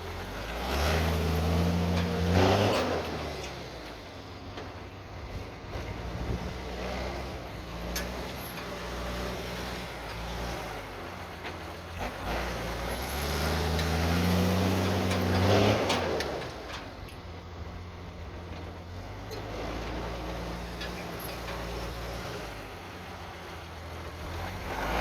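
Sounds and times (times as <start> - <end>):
truck diesel engine revving: 0.0 - 25.0.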